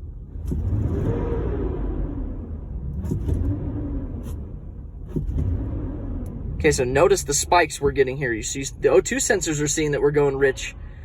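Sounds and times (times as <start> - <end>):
car engine revving: 0.1 - 10.8.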